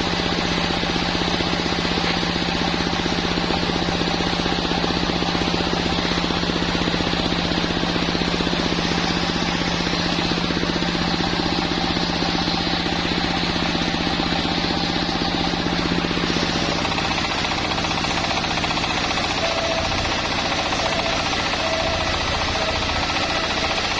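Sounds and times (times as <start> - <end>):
sawmill machine pulsing hum: 0.0 - 23.9.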